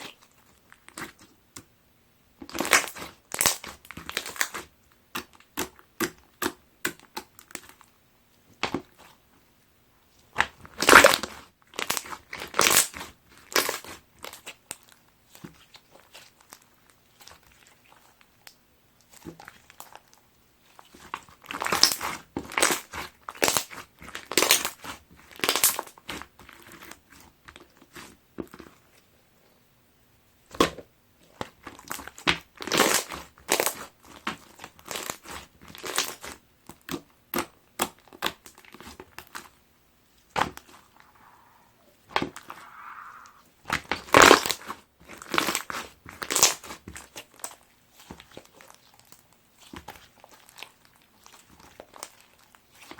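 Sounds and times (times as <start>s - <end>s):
slime crunching and popping: 2.5s - 7.8s, 10.4s - 20.2s, 20.8s - 28.6s, 30.6s - 39.5s, 42.1s - 52.9s.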